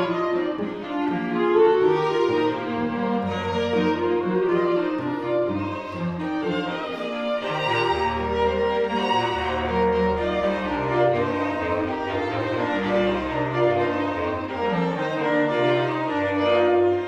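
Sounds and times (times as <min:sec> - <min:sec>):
bass clarinet: 0:00.0 - 0:17.0
string quartet: 0:00.0 - 0:17.0.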